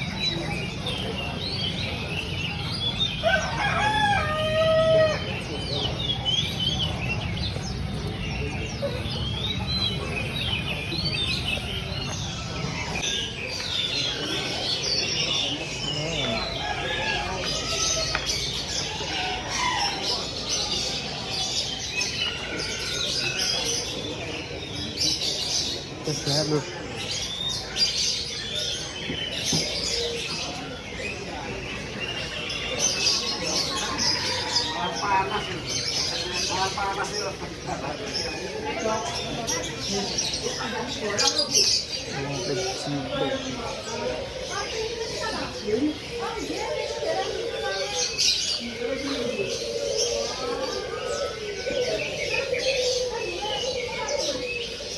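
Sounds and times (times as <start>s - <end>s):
songbirds chirping and whistling: 0.0s - 54.9s.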